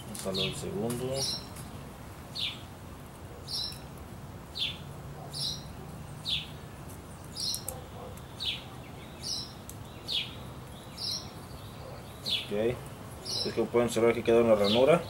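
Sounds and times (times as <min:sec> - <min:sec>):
small bird chirping: 0:00.3 - 0:02.7, 0:03.4 - 0:03.9, 0:04.5 - 0:13.7.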